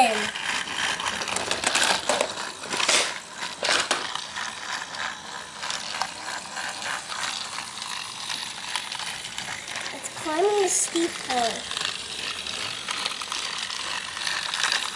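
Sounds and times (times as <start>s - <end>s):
toy train clatters: 0.0s - 14.9s
toy train rattling whir: 0.0s - 14.9s.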